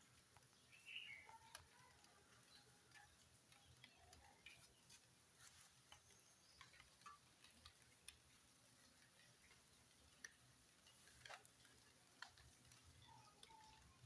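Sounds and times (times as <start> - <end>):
faint irregular ticks and clicks: 0.0 - 14.0.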